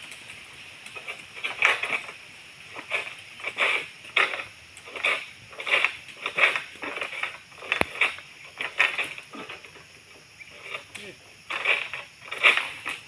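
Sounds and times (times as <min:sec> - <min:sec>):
sickle rasping on stalk: 0:00.9 - 0:09.7, 0:10.5 - 0:13.0.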